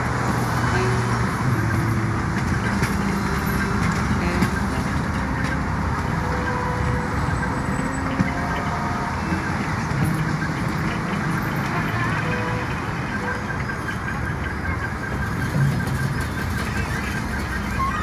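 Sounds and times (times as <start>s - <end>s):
city traffic: 0.0s - 18.0s.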